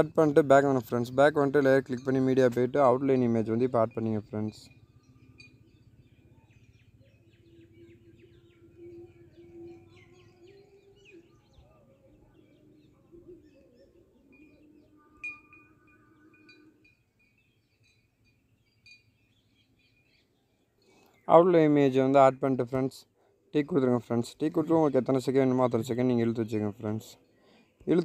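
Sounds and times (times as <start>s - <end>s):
faint birds chirping: 0.0s - 28.0s.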